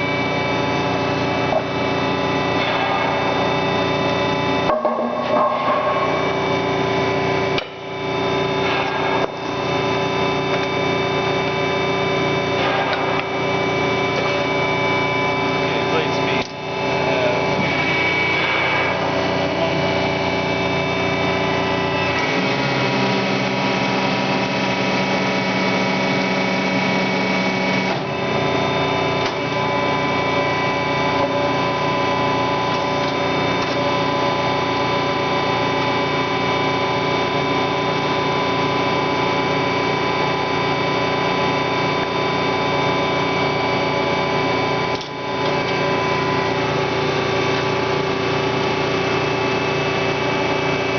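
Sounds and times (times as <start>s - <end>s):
band saw motor humming: 0.0s - 50.9s.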